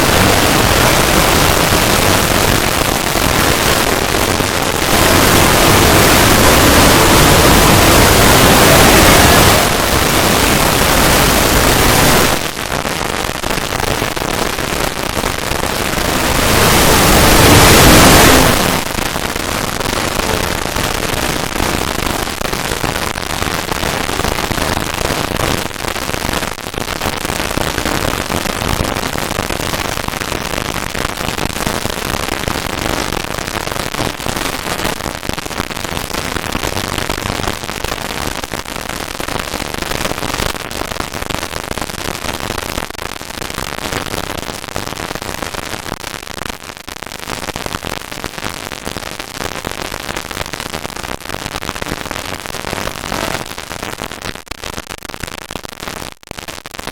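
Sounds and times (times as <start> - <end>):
dense crackling noise: 0.0 - 56.9.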